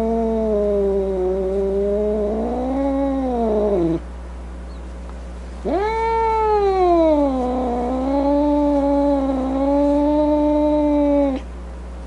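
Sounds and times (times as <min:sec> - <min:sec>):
cat yowling: 0:00.0 - 0:04.0, 0:05.6 - 0:11.5.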